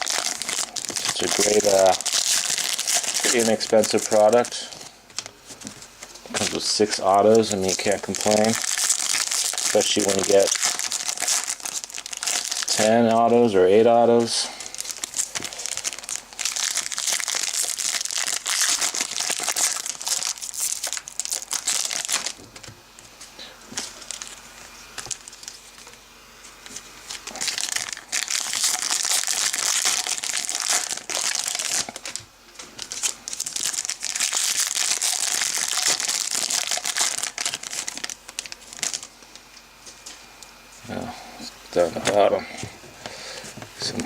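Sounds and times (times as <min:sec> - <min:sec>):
foil wrappers crinkling: 0:00.0 - 0:40.2.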